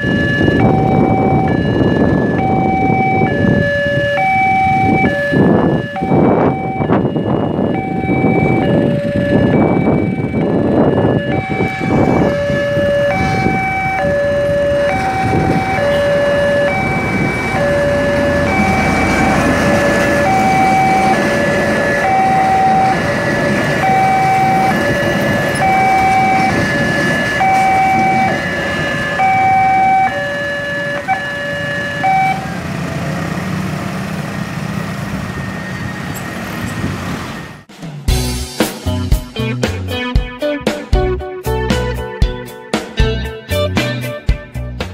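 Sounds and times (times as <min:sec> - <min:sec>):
two-tone siren: 0:00.0 - 0:33.2, 0:34.4 - 0:37.7
traffic rumble: 0:00.0 - 0:38.4.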